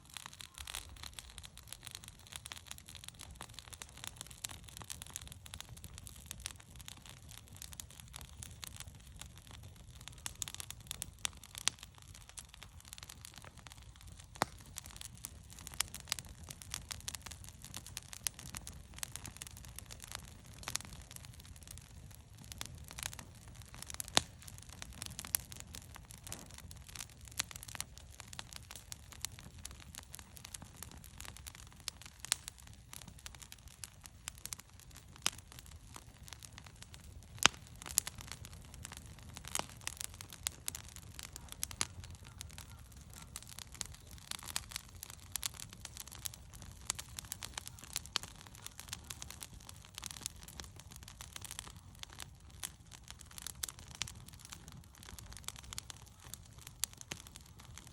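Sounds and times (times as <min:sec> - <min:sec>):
bonfire crackling and popping: 0:00.0 - 0:57.9.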